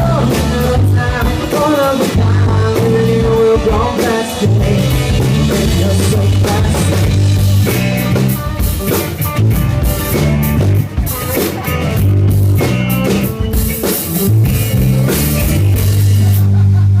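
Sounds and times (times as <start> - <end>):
drum kit: 0.0 - 17.0
guitar: 0.0 - 17.0
heavy bass line: 0.0 - 17.0.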